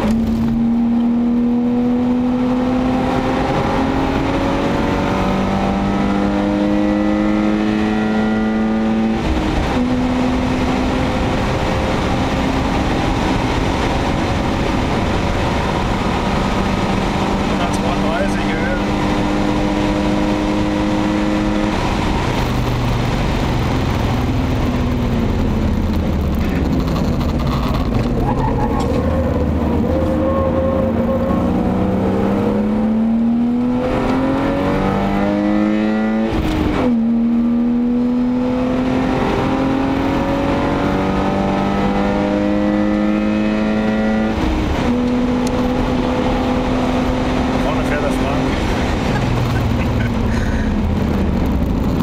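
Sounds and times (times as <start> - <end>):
car engine accelerating: 0.0 - 52.0
tyre and road noise: 0.0 - 52.0.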